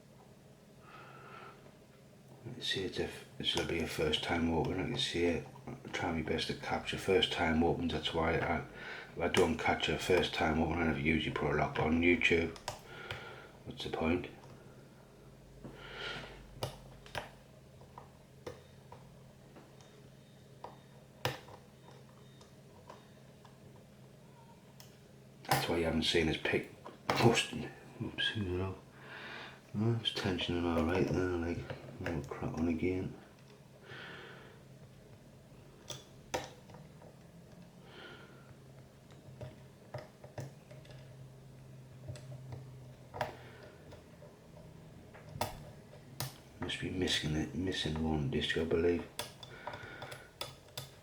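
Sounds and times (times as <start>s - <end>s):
faint low hum: 0.0s - 51.0s.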